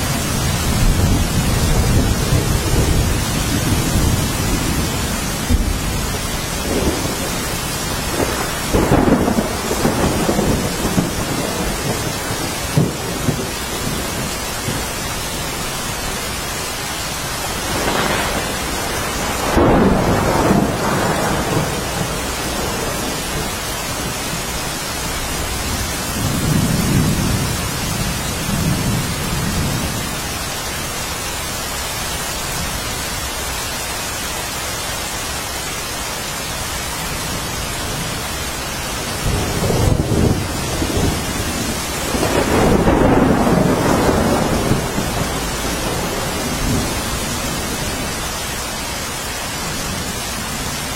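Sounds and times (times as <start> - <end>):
thunder rumbling: 0.0 - 30.4, 37.2 - 50.9
heavy rainfall: 0.0 - 50.9.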